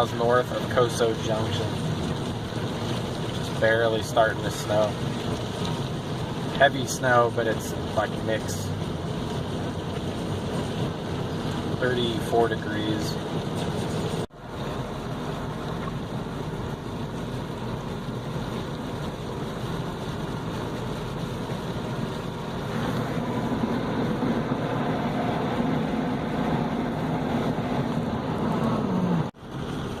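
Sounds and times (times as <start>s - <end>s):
road noise while driving: 0.0s - 30.0s.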